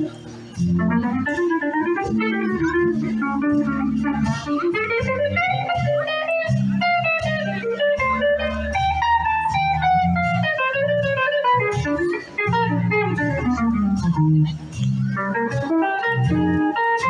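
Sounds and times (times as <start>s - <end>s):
bass: 0.0s - 17.0s
drums: 0.0s - 17.0s
electric guitar melody: 0.0s - 17.0s.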